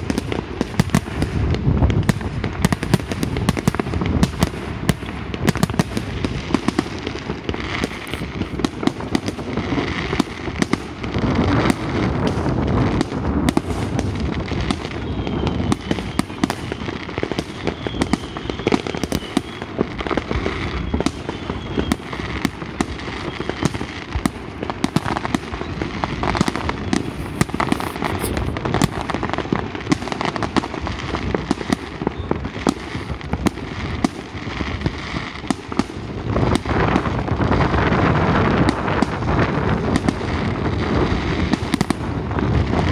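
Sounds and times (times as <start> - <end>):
firework whistles: 0.0 - 42.9
fireworks bangs and crackling: 0.0 - 42.9.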